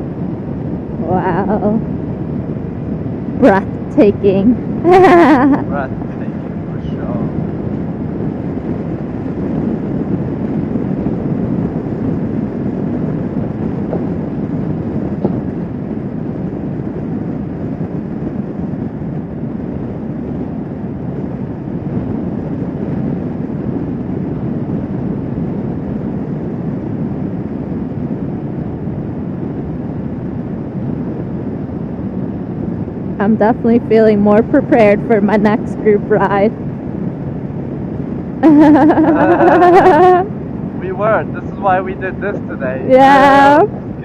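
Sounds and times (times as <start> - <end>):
motorcycle engine and road noise: 0.0 - 44.0
wind rushing over microphone: 0.0 - 44.0.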